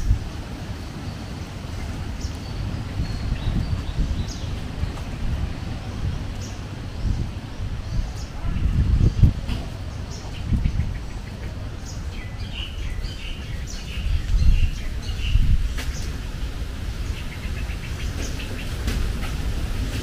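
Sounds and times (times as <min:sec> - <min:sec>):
small birds chirping: 0:00.8 - 0:19.0.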